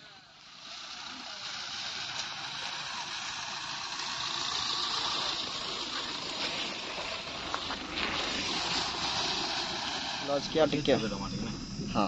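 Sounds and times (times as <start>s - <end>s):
tyres hissing on loose dirt: 0.0s - 12.0s
wind: 0.0s - 12.0s.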